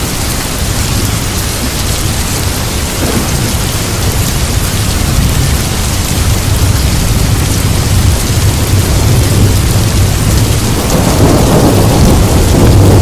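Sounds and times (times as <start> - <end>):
heavy rain: 0.0 - 13.0
low rolling thunder: 1.1 - 13.0.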